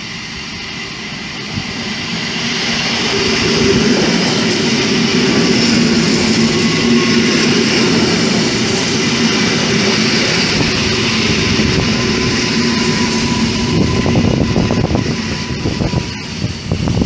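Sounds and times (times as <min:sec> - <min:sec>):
train wheels rumbling on rails: 0:01.2 - 0:17.0.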